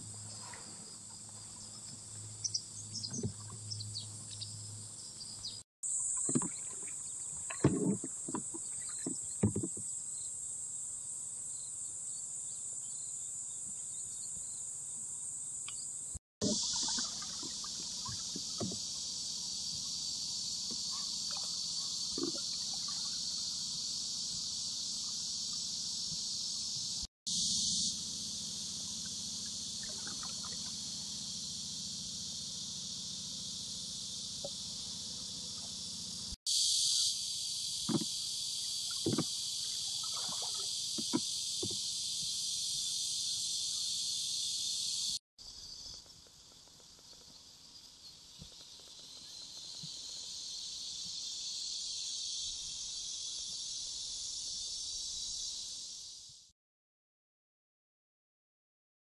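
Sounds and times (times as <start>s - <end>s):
insects chirping: 0.0s - 56.5s.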